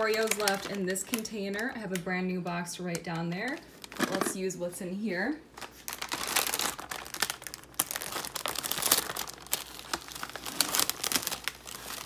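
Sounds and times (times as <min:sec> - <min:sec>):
plastic wrapper crinkling and tearing: 0:00.0 - 0:02.2, 0:02.8 - 0:04.5, 0:05.5 - 0:12.0.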